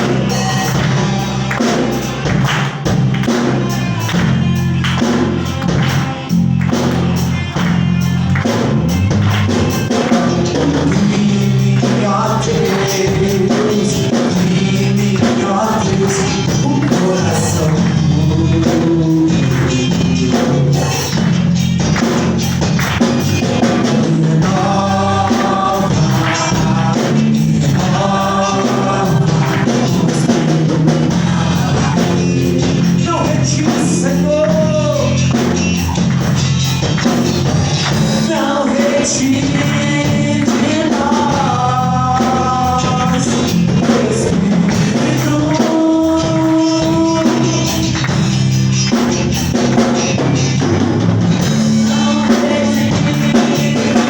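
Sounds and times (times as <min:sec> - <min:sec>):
singers: 0:00.0 - 0:08.4, 0:09.2 - 0:21.4, 0:22.8 - 0:54.0
bass line: 0:00.0 - 0:54.0
drums beating: 0:00.0 - 0:54.0.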